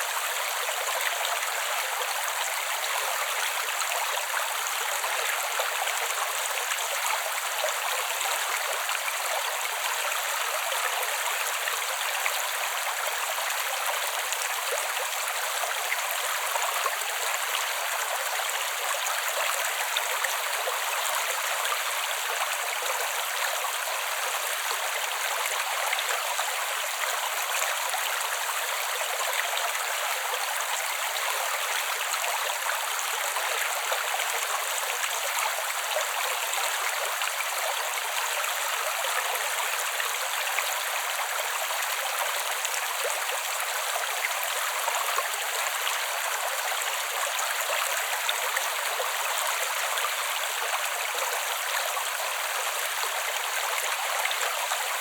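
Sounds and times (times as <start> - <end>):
creek water flowing: 0.0 - 55.0.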